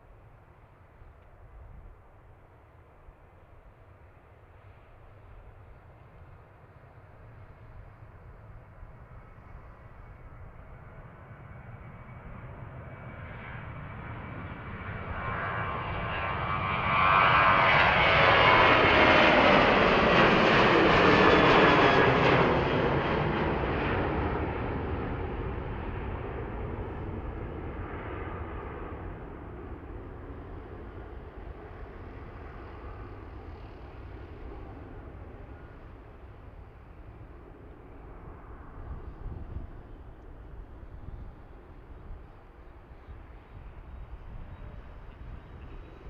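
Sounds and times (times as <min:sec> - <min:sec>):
jet engines passing by: 0:00.0 - 0:46.0.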